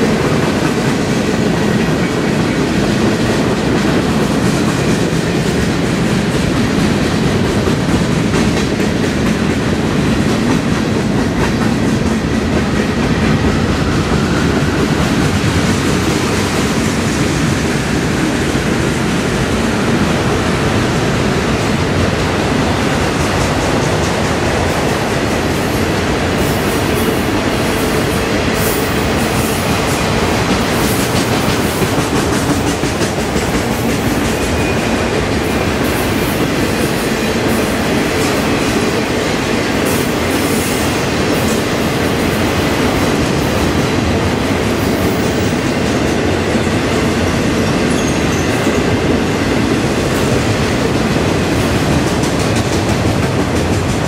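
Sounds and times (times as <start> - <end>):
freight train wheels rumbling: 0.0 - 54.0
rattling train cars: 0.0 - 54.0.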